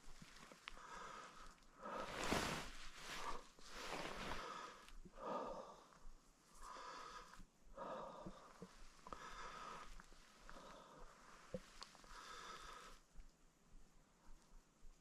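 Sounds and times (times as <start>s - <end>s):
person breathing: 0.3s - 13.2s.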